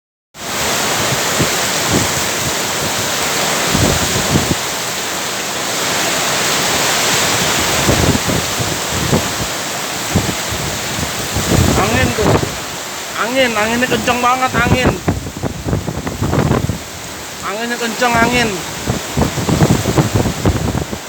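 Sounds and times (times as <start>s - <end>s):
heavy rain pouring: 0.4s - 21.0s
wind gusts buffeting microphone: 0.4s - 21.0s.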